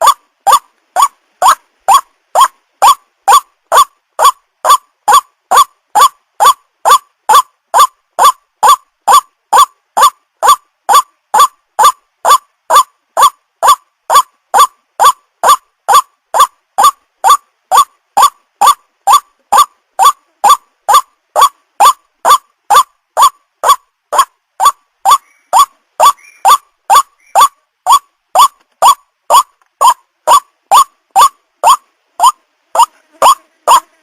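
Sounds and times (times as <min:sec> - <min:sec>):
waterhen calling: 0:00.0 - 0:34.0.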